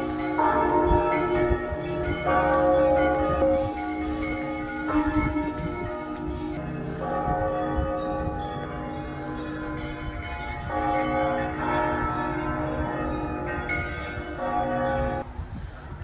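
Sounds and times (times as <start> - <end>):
church bells pealing: 0.0 - 16.0.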